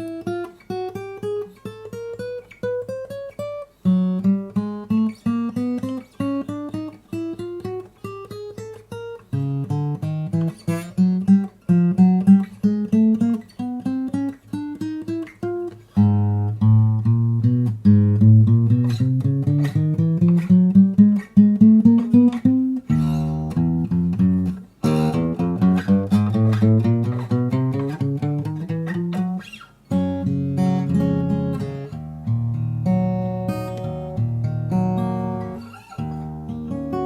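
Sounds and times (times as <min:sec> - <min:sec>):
acoustic guitar picked notes: 0:00.0 - 0:37.0
acoustic guitar strummed chords: 0:00.0 - 0:37.0.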